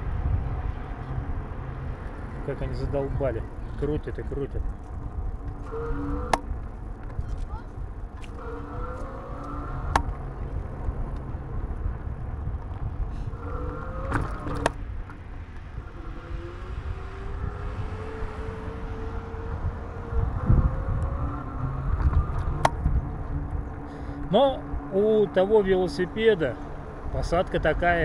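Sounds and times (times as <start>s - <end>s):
wind rumble on microphone: 0.0s - 28.0s
electric bike motor whining: 0.1s - 28.0s.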